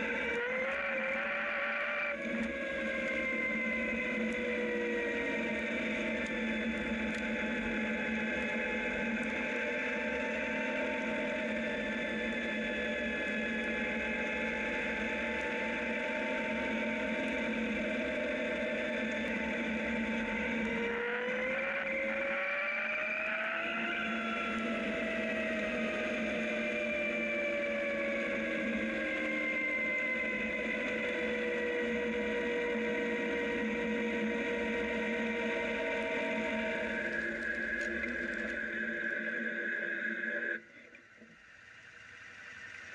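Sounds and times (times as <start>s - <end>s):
electric motorcycle whine: 0.0s - 42.9s.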